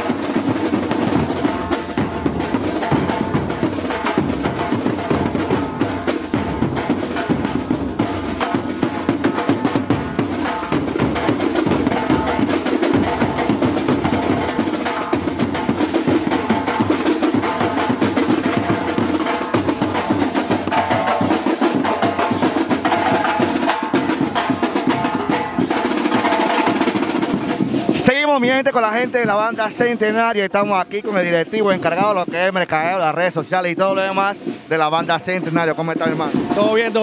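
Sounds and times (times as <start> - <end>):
melody over drums: 0.0 - 37.0
snare and tenor drums: 0.0 - 37.0.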